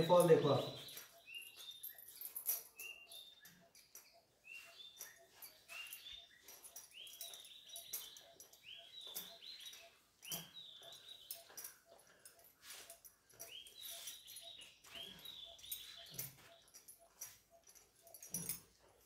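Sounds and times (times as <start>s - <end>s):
high-pitched chirping calls: 0.0s - 18.5s.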